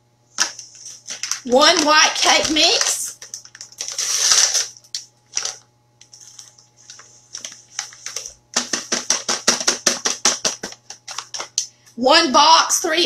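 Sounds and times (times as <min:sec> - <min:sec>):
packaging crinkling and tearing: 0:00.4 - 0:11.7
packaging rustling: 0:00.4 - 0:11.7.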